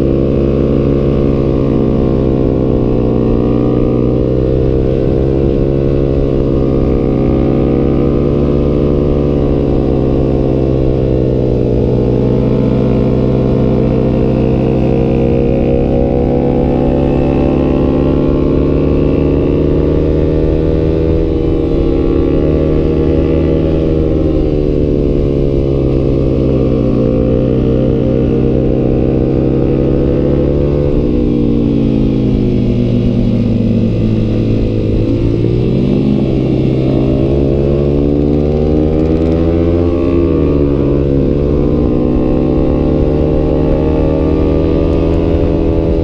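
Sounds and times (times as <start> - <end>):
motorcycle engine while riding: 0.0 - 46.0.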